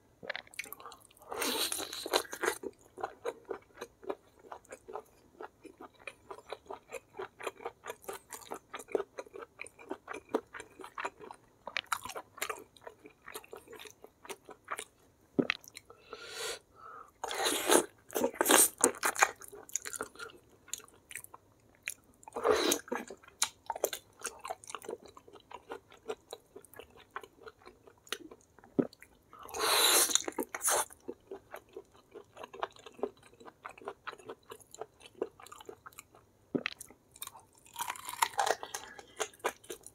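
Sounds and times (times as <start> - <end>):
person chewing food: 0.2 - 16.0, 17.2 - 39.9.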